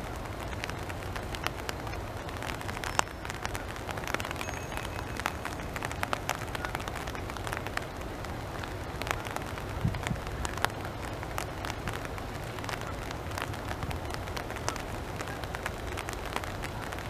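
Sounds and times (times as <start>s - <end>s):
rain drips on a pond: 0.0s - 17.0s.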